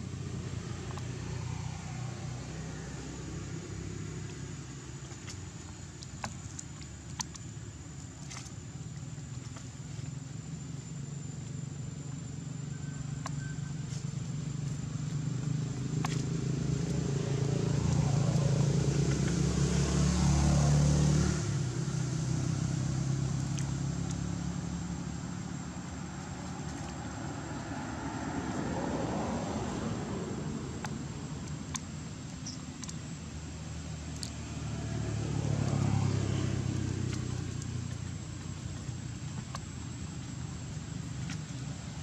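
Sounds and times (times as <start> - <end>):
vehicle engine passing by: 0.0 - 5.4, 12.6 - 42.0.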